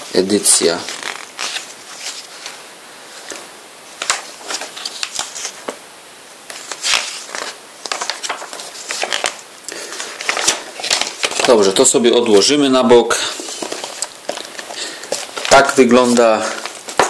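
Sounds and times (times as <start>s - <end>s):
album pages rustling and flapping: 0.2s - 17.0s.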